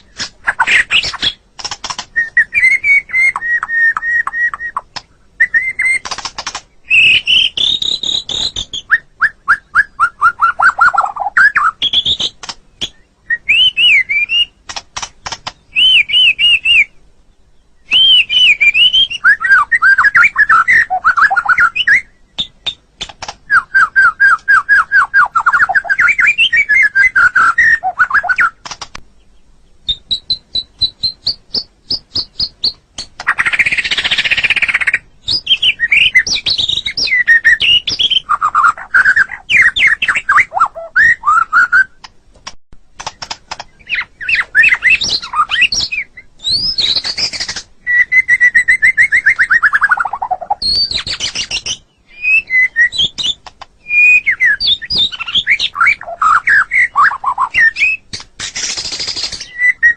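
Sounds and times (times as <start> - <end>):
songbird whistling and trilling: 0.0 - 14.6, 15.2 - 28.8, 29.8 - 42.0, 43.0 - 59.9.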